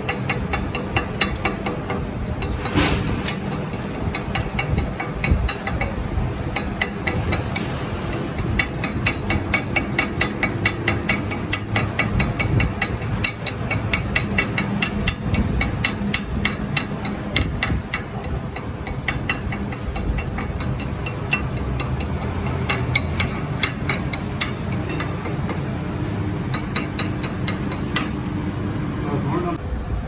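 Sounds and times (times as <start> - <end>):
hammer striking metal: 0.0 - 28.6.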